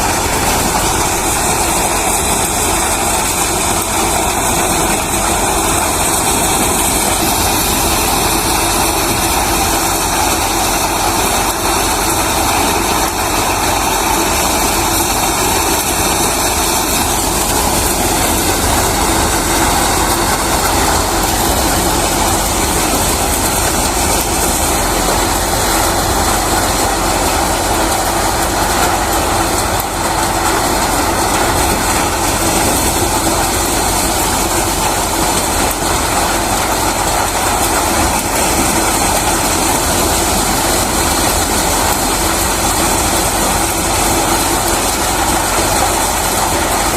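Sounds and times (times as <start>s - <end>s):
thresher running: 0.0s - 46.9s.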